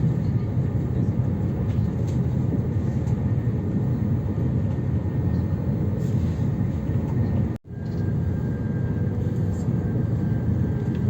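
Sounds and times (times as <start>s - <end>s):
high-speed train rumble: 0.0s - 11.0s.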